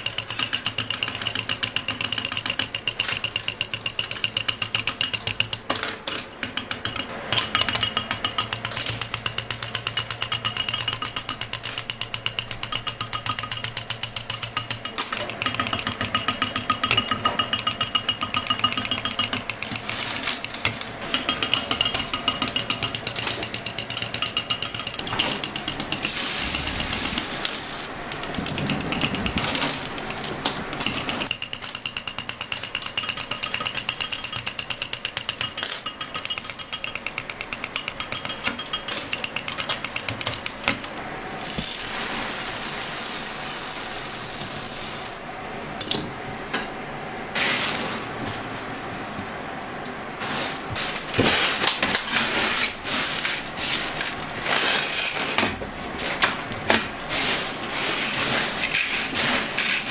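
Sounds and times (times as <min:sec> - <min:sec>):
candy cutting machine clattering: 0:00.0 - 0:45.2, 0:50.8 - 0:59.9.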